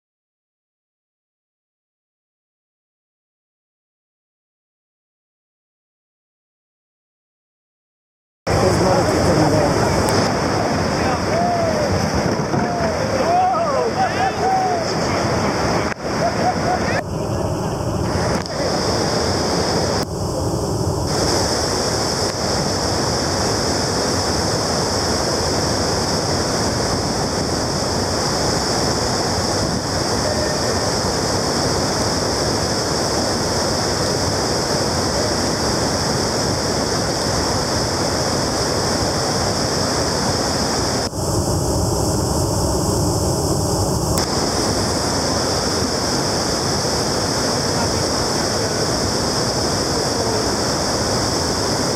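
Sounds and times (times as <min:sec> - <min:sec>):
water rushing over a weir: 0:08.5 - 0:51.9.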